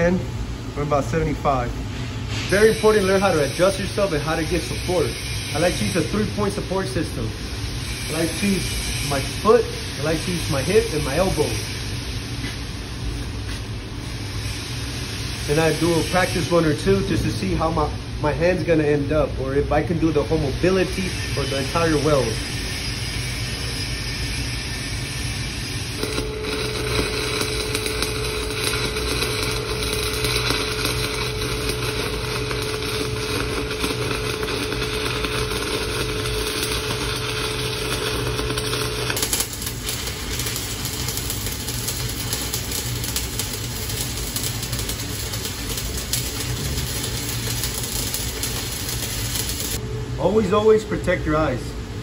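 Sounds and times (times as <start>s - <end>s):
welding arc crackling: 2.3s - 17.8s, 20.0s - 50.6s.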